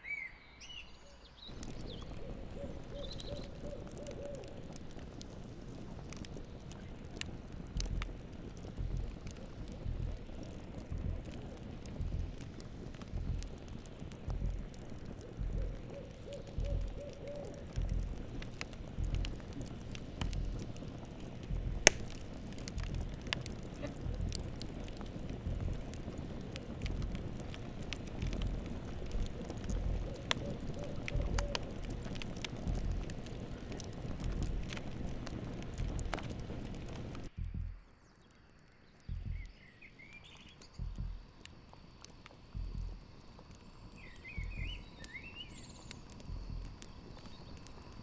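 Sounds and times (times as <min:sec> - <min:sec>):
small chirps: 0:00.0 - 0:48.0
campfire crackling and popping: 0:01.4 - 0:48.0.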